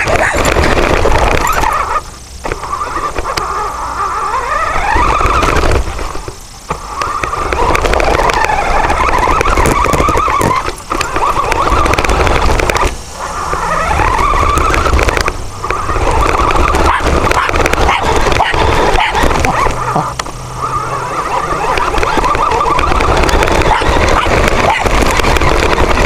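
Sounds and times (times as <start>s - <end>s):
toy motor and gears whining: 0.0s - 26.0s
tyres rumbling on ground: 0.0s - 26.0s.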